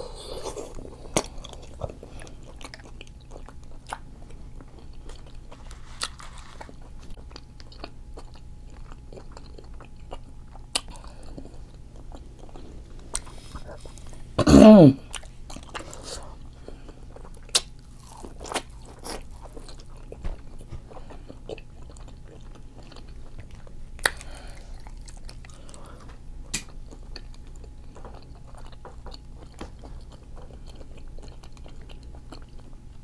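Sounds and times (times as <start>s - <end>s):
chewing and biting food: 0.0s - 14.3s, 15.1s - 33.0s.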